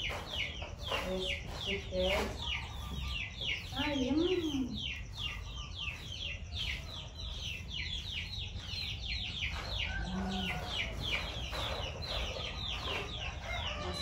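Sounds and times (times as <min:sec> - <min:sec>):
chicks peeping: 0:00.0 - 0:14.0
hen clucking: 0:00.0 - 0:14.0.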